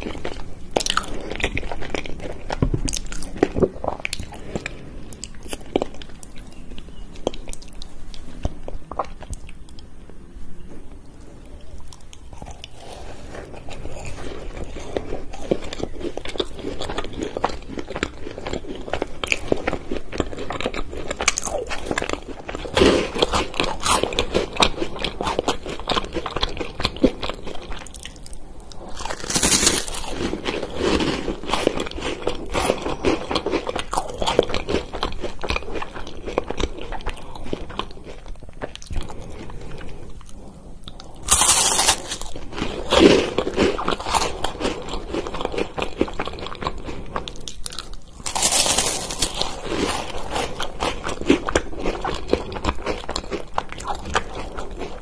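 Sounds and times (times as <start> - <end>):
crunchy chewing of chocolate snacks: 0.0 - 55.0.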